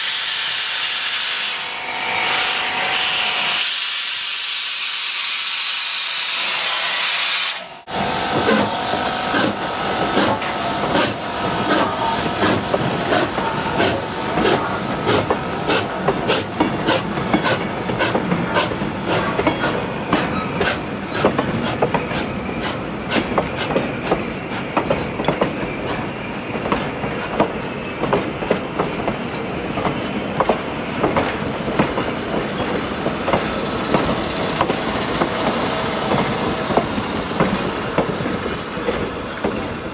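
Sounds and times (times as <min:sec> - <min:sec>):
locomotive steam hissing: 0:00.0 - 0:39.9
train cars rumbling past: 0:07.8 - 0:39.9.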